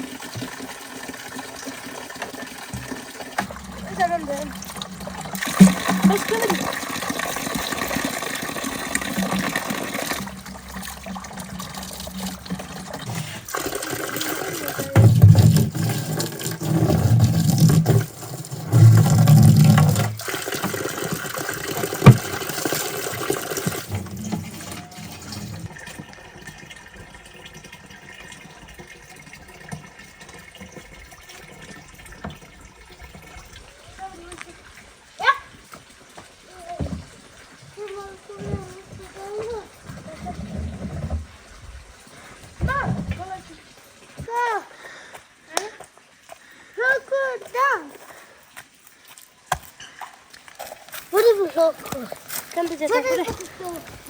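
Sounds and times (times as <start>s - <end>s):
water running and pouring: 0.0s - 54.0s.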